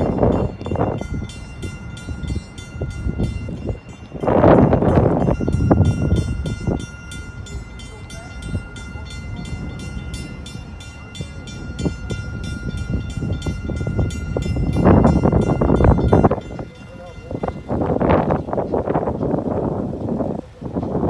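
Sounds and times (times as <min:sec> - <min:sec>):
warning bell ringing rapidly: 0:00.0 - 0:19.1.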